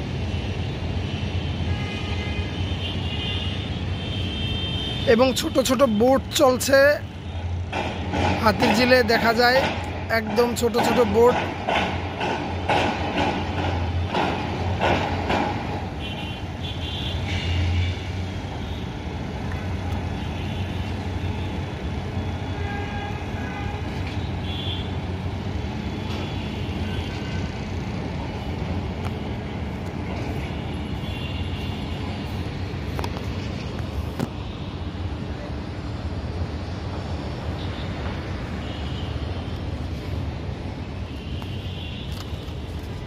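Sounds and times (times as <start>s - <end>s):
distant traffic rumble: 0.0s - 43.0s.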